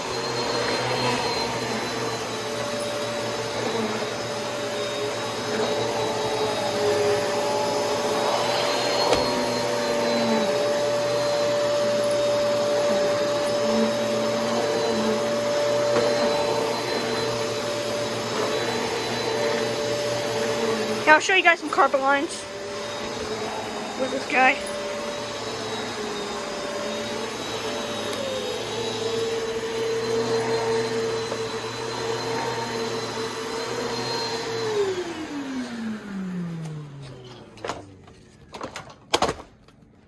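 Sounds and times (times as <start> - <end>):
vacuum cleaner motor whine: 0.0 - 39.4.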